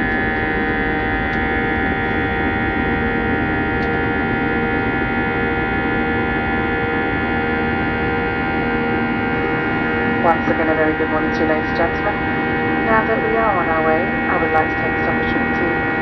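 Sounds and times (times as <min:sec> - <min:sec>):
airplane cabin engine drone: 0:00.0 - 0:16.0
steady whining tones: 0:00.0 - 0:16.0.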